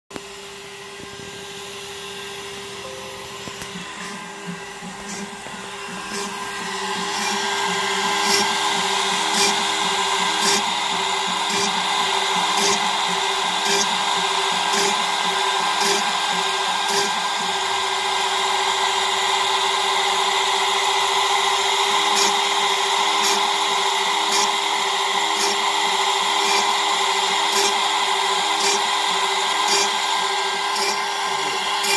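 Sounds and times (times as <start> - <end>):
router spindle whine: 0.1 - 31.9
bit cutting into wood: 0.6 - 20.0, 21.4 - 31.9.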